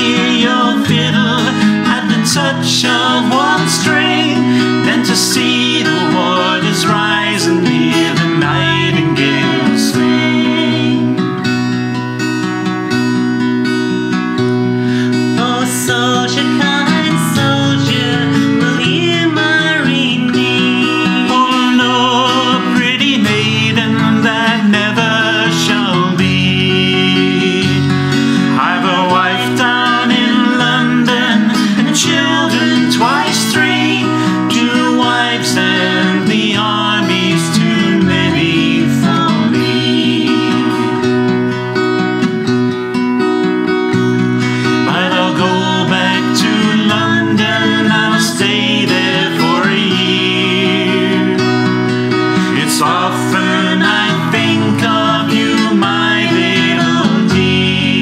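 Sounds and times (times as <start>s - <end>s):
acoustic guitar: 0.0s - 58.0s
person singing folk song: 0.0s - 58.0s.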